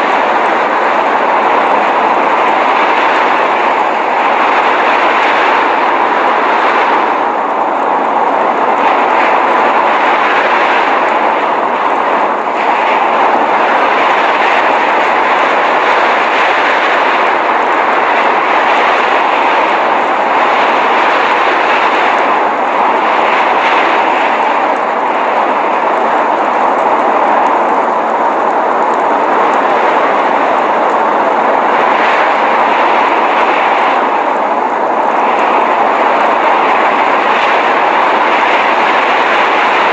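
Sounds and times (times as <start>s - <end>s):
blizzard wind roaring: 0.0s - 39.9s.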